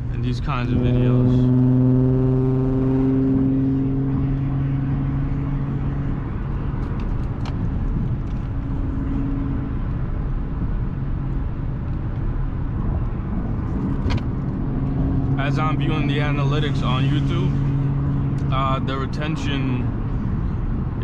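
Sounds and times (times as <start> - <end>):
car engine drone: 0.0 - 21.0
tyre and road rumble: 0.0 - 21.0.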